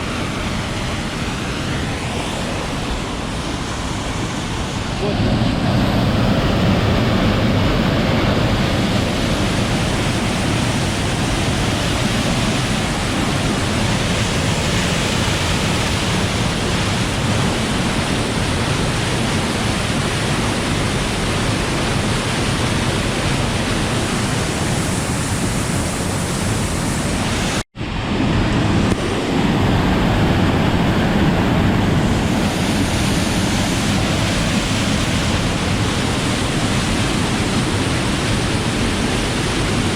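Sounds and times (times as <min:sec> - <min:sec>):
waterfall and creek rushing: 0:00.0 - 0:39.9.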